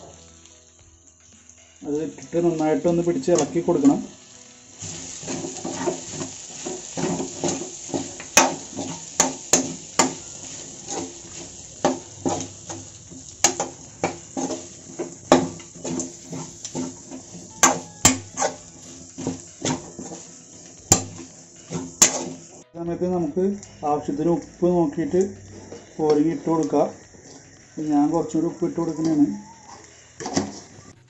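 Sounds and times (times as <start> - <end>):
spoon clinking and scraping pan: 4.8 - 22.7, 23.6 - 30.9.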